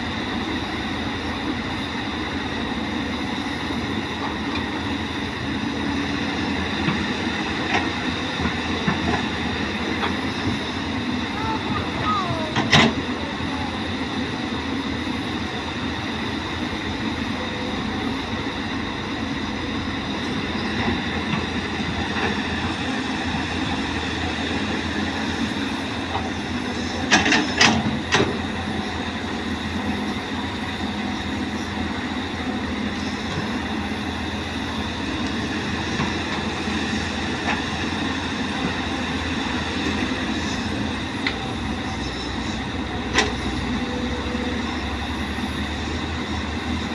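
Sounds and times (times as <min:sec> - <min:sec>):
excavator running: 0:00.0 - 0:46.9.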